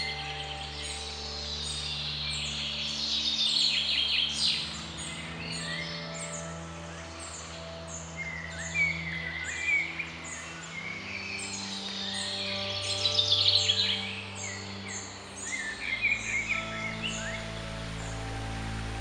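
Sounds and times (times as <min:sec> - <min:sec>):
low sustained tones: 0:00.0 - 0:19.0
songbirds chirping: 0:00.0 - 0:19.0
trilling birdsong: 0:00.0 - 0:19.0.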